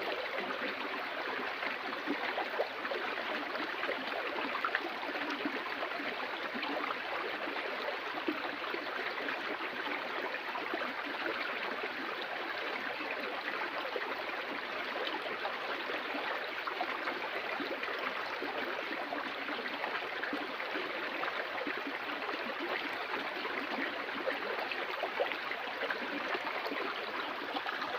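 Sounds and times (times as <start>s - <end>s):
stream flowing over rocks: 0.0s - 27.9s.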